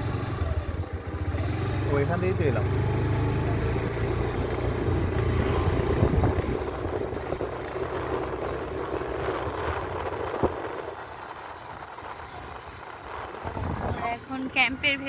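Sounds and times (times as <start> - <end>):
road noise: 0.0 - 15.0
vehicle rumbling while moving: 0.0 - 15.0.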